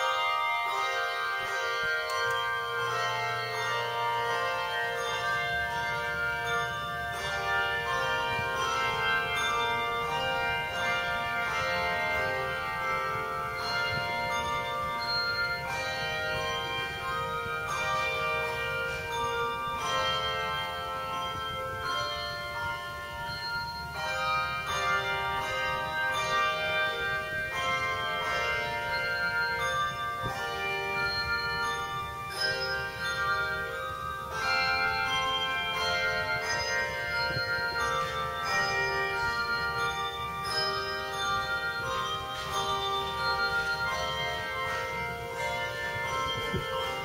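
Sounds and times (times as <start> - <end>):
handbells ringing: 0.0 - 47.0.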